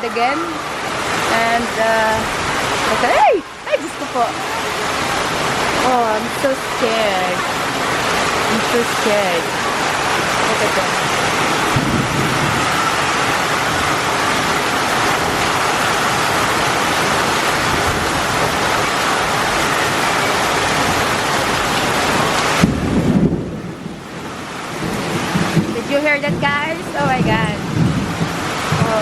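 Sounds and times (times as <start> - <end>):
heavy rain hiss: 0.0 - 29.0.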